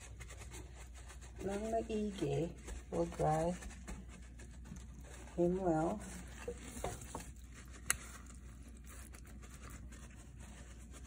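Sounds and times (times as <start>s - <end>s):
paper towel rustling and patting: 0.0s - 11.0s.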